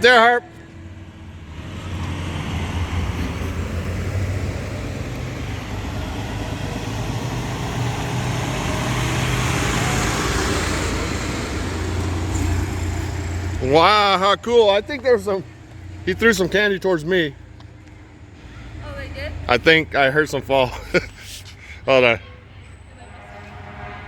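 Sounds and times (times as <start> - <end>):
fire truck engine rumbling: 0.0 - 24.0
road noise: 0.0 - 24.0.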